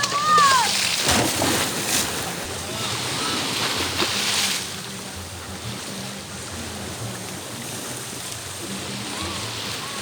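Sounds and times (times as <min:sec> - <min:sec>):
sea surf: 0:00.0 - 0:10.0
wind: 0:00.0 - 0:10.0.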